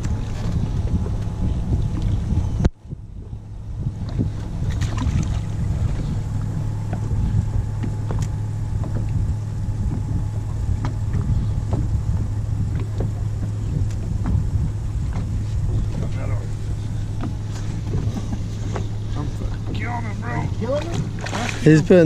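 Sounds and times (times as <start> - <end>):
boat motor humming: 0.0 - 22.0
water splashing against hull: 0.0 - 22.0.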